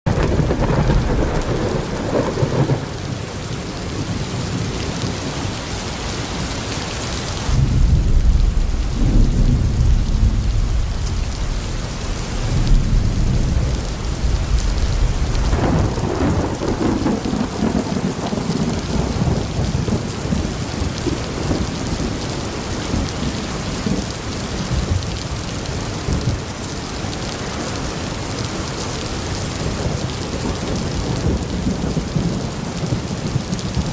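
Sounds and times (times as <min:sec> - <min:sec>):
heavy rain: 0:00.0 - 0:33.9
thunder rumbling: 0:00.1 - 0:05.4, 0:07.1 - 0:26.6, 0:27.3 - 0:33.9.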